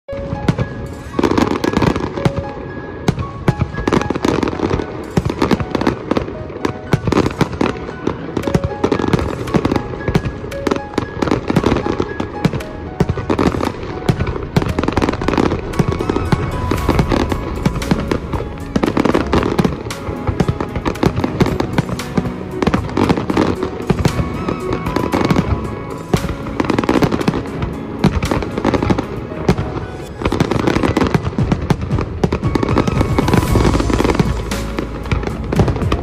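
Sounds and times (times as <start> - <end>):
fireworks bangs and crackles: 0.1 - 36.0.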